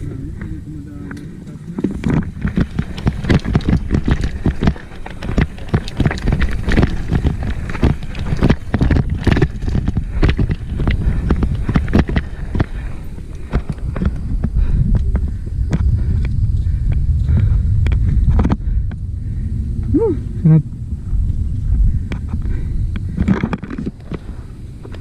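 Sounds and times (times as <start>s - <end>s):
mountain bike rattling over rocks: 0.0s - 18.8s, 21.0s - 25.0s
wind rumble on microphone: 0.0s - 25.0s.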